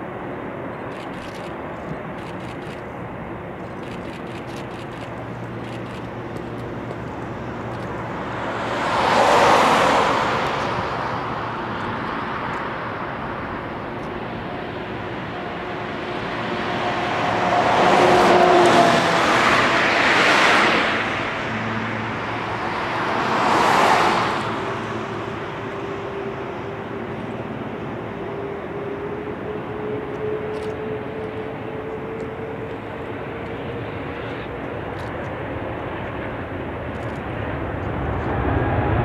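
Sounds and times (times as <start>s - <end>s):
jet engines rumbling: 0.0s - 39.0s.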